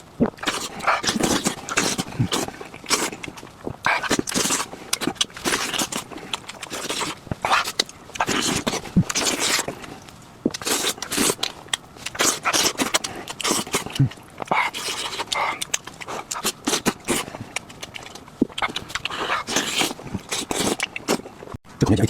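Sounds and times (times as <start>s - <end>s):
person chewing and crunching: 0.2s - 21.6s.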